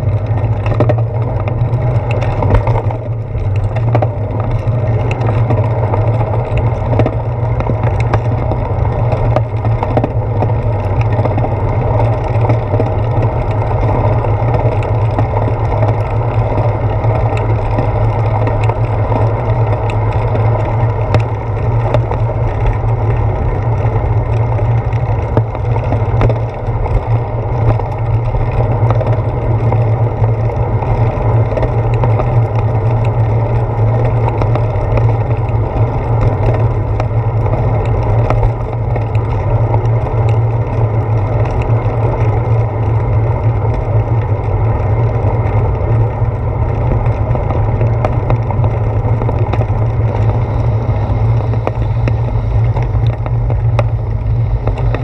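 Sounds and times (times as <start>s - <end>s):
bicycle road rumble: 0.0s - 55.0s
bike rattling ticks: 0.0s - 55.0s
wind noise: 0.0s - 55.0s.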